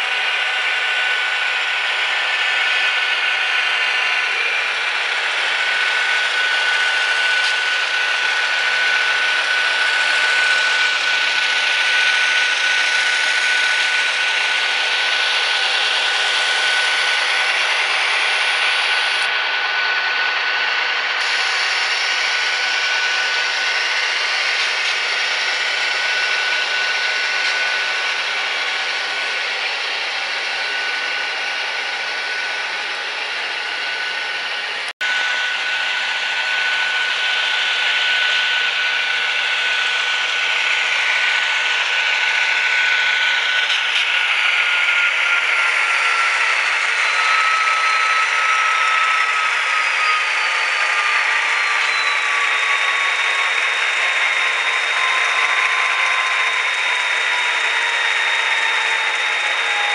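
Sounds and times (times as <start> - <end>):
model train motor whine: 0.0 - 59.9.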